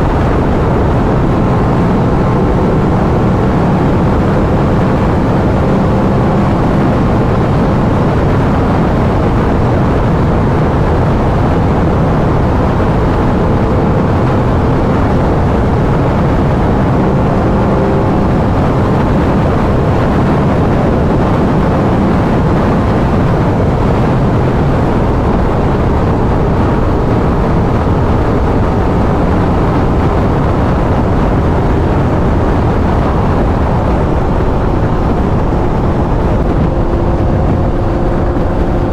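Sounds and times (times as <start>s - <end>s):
motorcycle engine droning: 0.0s - 38.9s
wind rush on microphone: 0.0s - 38.9s.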